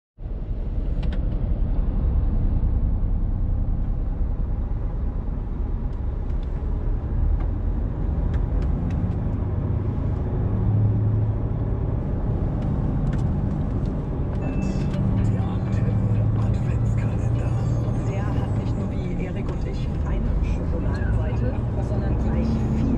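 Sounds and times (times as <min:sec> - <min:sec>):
truck engine and tyre rumble: 0:00.2 - 0:22.9.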